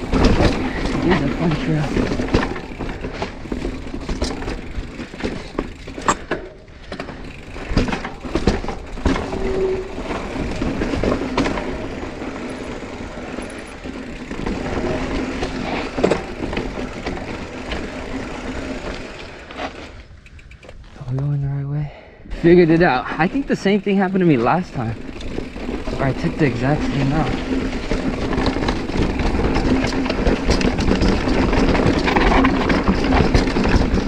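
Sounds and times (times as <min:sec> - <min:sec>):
bike knocking and rattling: 0:00.0 - 0:21.4, 0:22.4 - 0:34.0
tyre noise on dirt: 0:00.0 - 0:21.4, 0:22.4 - 0:34.0.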